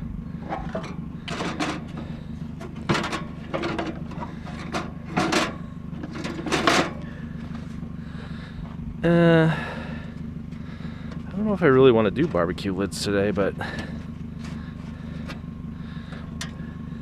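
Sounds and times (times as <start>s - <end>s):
scrap clunking and scraping: 0.0s - 17.0s
vehicle engine idling: 0.0s - 17.0s.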